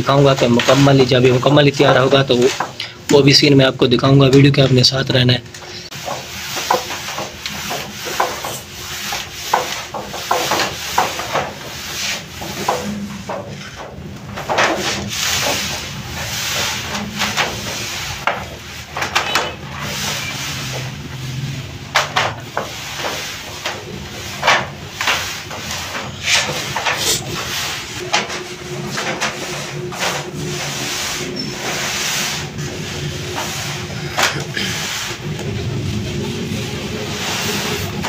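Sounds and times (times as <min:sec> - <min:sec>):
hands rubbing dough on slab: 0:05.7 - 0:38.0.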